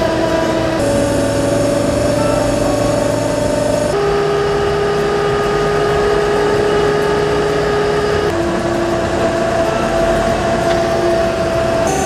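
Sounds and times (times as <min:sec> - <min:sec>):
held tones: 0:00.0 - 0:12.0
truck engine running: 0:00.0 - 0:12.0.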